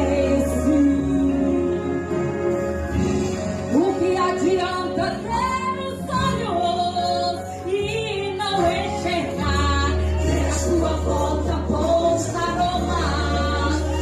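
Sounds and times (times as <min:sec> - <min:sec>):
woman singing gospel song: 0:00.0 - 0:02.2, 0:03.7 - 0:14.0.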